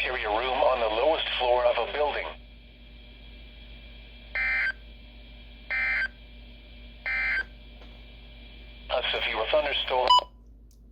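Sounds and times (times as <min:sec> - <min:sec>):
faint radio hiss and hum: 0:00.0 - 0:10.9.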